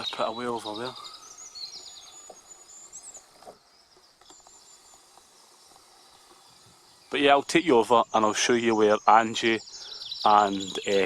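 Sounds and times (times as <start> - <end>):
small songbirds singing: 0.0 - 11.0.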